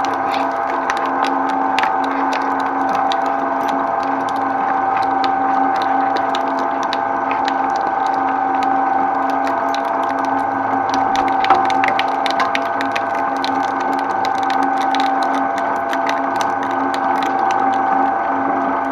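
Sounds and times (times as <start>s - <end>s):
irregular clicks and ticks: 0.0s - 18.9s.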